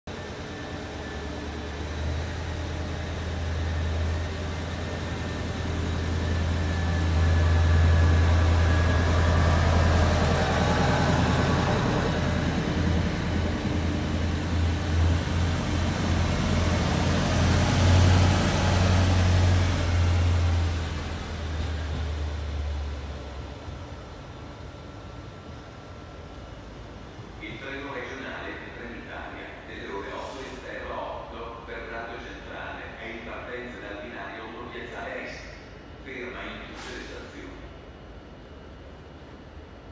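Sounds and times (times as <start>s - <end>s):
diesel train engine droning: 0.1s - 39.9s.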